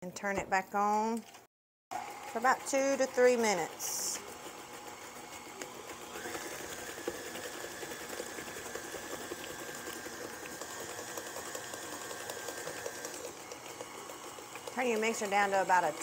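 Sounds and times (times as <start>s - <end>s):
stand mixer motor whine: 1.9s - 16.0s.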